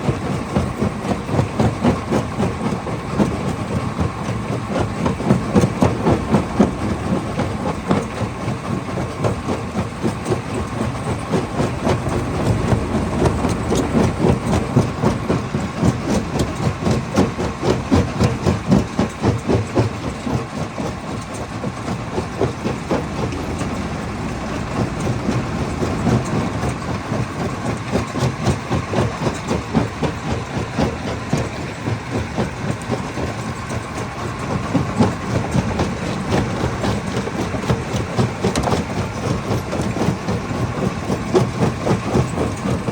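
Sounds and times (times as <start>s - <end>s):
crusher machine drone: 1.5s - 42.8s.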